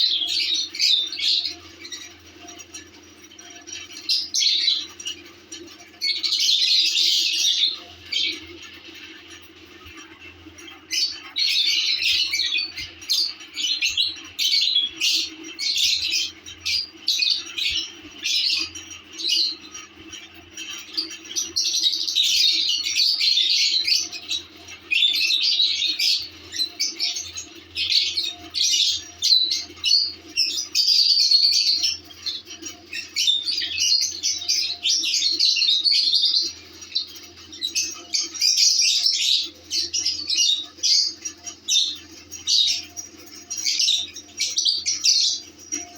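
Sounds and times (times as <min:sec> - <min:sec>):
lovebirds chirping and squawking: 0:00.0 - 0:45.9.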